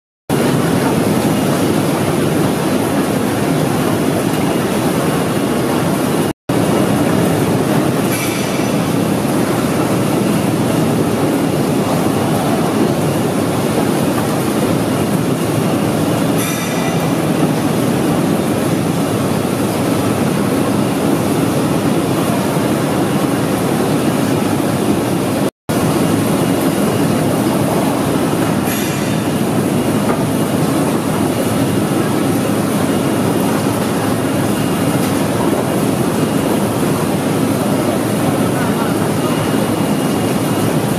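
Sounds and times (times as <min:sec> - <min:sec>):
processing line machinery noise: 0:00.3 - 0:40.9.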